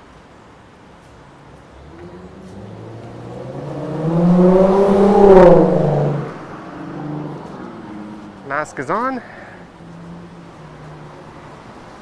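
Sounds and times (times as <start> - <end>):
vehicle engine passing by: 1.3 - 12.0.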